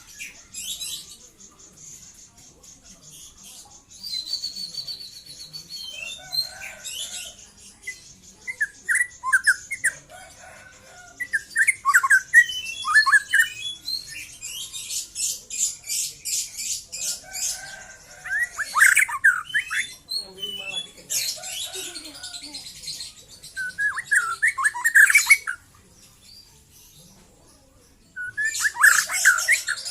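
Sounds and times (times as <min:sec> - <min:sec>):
bird singing varied song: 0:00.0 - 0:29.9.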